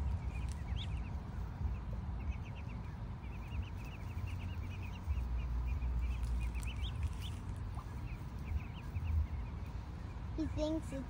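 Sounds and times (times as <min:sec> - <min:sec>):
low rumble: 0:00.0 - 0:10.4
ducklings peeping: 0:00.0 - 0:11.0.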